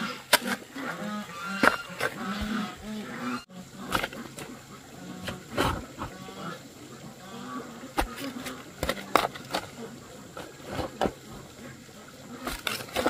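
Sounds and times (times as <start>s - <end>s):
animals calling: 0.0s - 13.0s.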